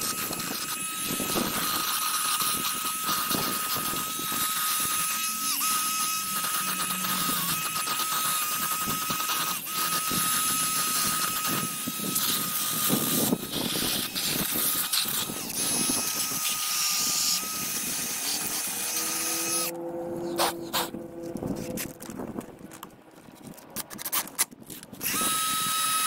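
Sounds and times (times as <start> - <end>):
power tool whining: 0.0 - 22.9, 25.0 - 26.0.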